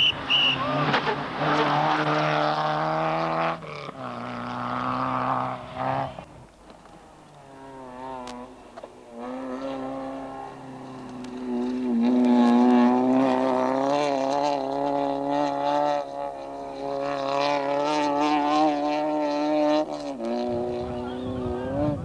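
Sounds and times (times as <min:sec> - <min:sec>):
engine crackles: 0:00.0 - 0:22.0
rally car engine at high revs: 0:00.0 - 0:22.0.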